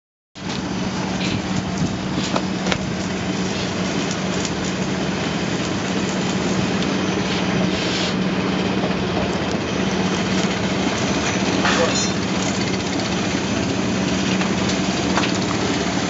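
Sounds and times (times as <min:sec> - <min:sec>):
winch humming and rattling: 0:00.4 - 0:16.0.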